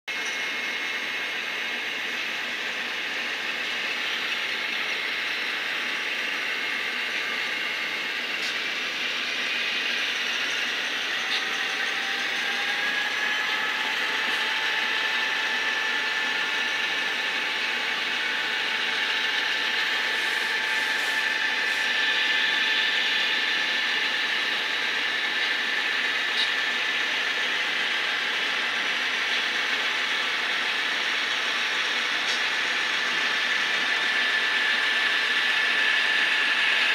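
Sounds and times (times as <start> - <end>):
thin motor whine: 0.1 - 36.9
model train motor whirring: 0.2 - 36.9.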